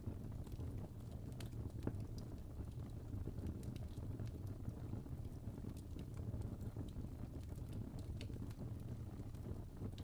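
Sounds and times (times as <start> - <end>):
fire crackling: 0.0 - 10.0
low rumble of flame: 0.0 - 10.0.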